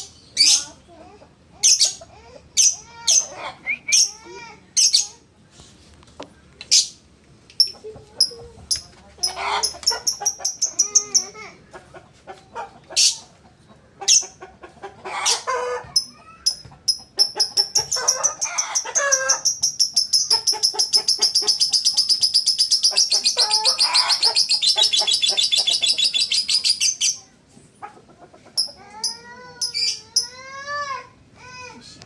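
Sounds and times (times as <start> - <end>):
caged bird chirping and warbling: 0.0 - 1.0, 1.6 - 5.3, 6.3 - 31.0.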